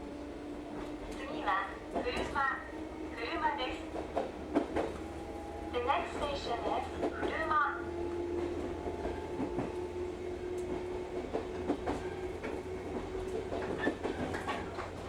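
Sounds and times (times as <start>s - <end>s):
rail clicks: 0.0s - 15.0s
steady train hum: 0.0s - 15.0s
train rumbling on track: 0.0s - 15.0s.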